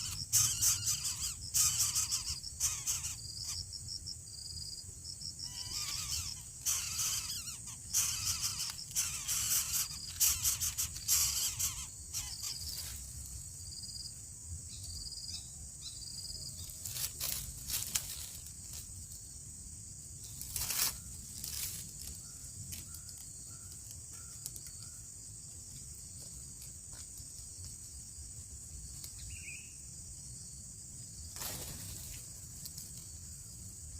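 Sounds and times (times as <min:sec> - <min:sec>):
crickets droning: 0:00.0 - 0:33.9.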